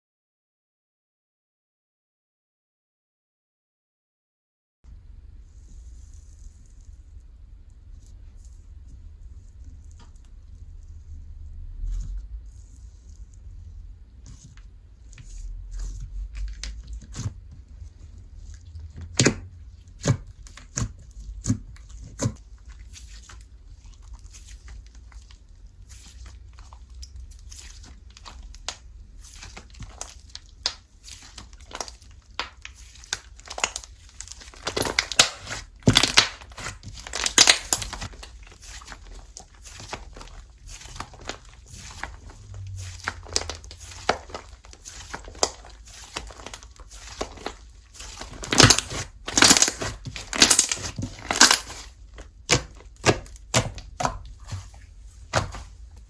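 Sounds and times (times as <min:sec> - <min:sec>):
slime squished by hand: 0:05.6 - 0:56.0.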